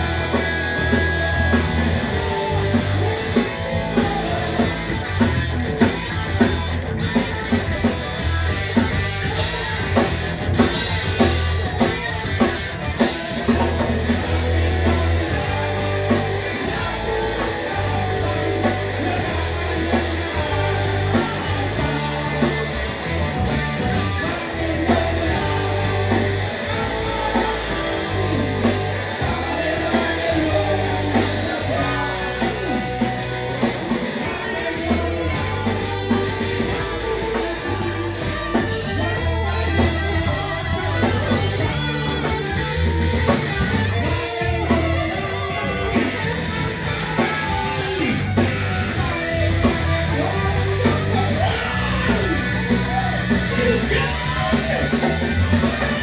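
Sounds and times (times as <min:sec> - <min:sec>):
male singer: 0:00.0 - 0:05.1, 0:13.3 - 0:42.4, 0:43.8 - 0:56.0
bass guitar: 0:00.0 - 0:56.0
drum kit: 0:00.0 - 0:56.0
electric guitars: 0:00.0 - 0:56.0.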